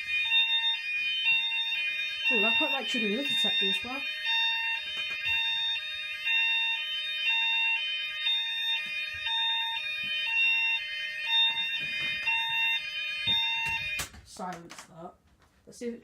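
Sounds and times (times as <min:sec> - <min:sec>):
low two-note alarm tone: 0:00.0 - 0:14.0
fire alarm sounders warbling: 0:00.0 - 0:14.3.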